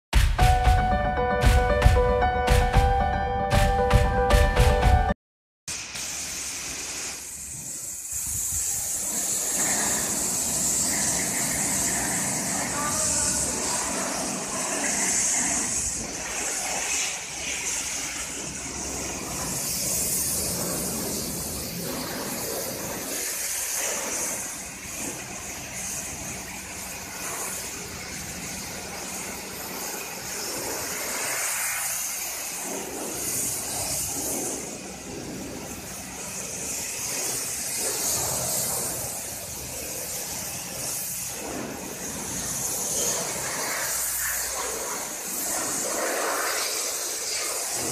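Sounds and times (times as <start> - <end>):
pressure washer spraying: 5.7 - 47.9.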